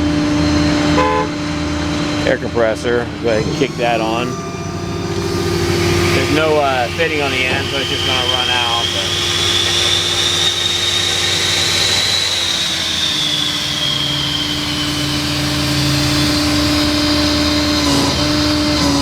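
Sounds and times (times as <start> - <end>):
air compressor running: 3.2 - 19.0
truck engine humming: 3.2 - 19.0
compressed air hissing: 3.6 - 19.0.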